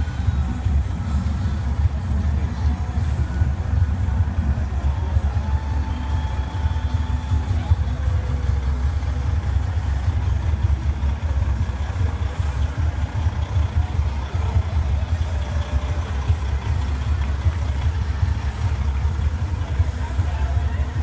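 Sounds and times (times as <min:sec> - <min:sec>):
diesel truck engine rumble: 0:00.0 - 0:21.0.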